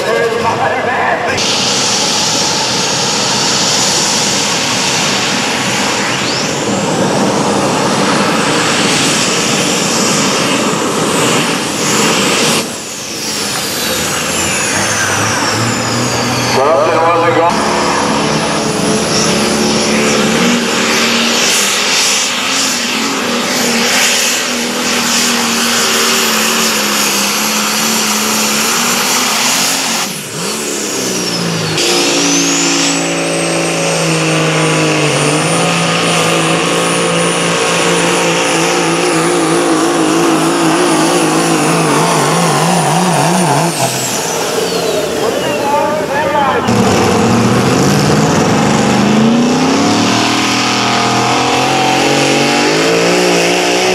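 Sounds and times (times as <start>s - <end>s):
engine running hard under load: 0.0s - 53.9s
high whine: 0.0s - 53.9s.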